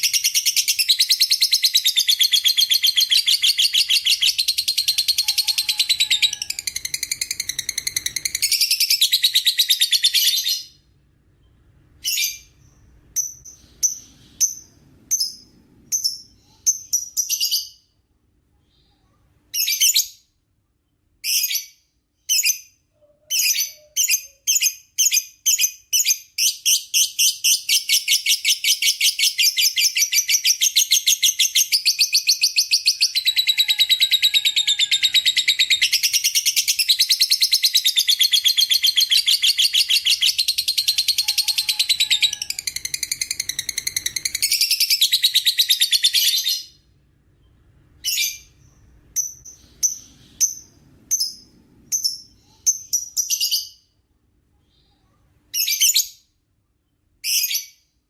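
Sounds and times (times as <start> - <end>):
high bird chirps: 0.0 - 18.0, 21.2 - 54.0.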